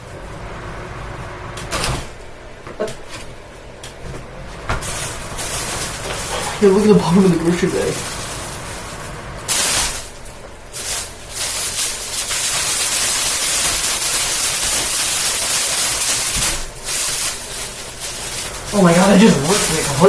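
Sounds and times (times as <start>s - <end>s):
plastic bag shredding in fan: 0.0s - 20.0s.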